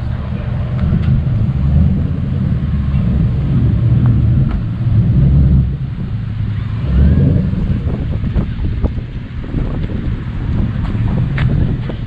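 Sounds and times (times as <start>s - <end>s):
car engines rumbling low: 0.0s - 12.0s.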